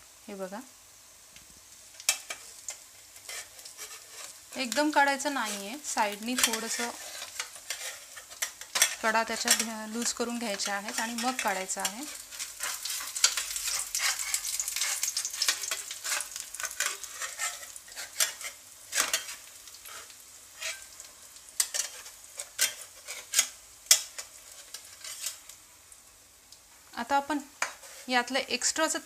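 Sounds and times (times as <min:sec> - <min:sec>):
oil sizzling in a pan: 0:00.0 - 0:29.0
metal spatula scraping a pan: 0:02.0 - 0:21.0, 0:21.6 - 0:25.5, 0:27.6 - 0:28.3.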